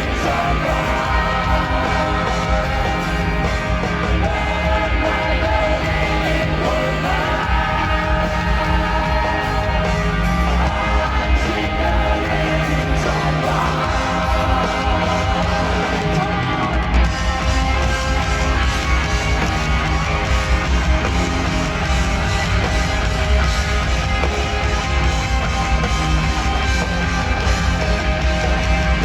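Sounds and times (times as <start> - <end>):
rock band playing live: 0.0 - 29.0.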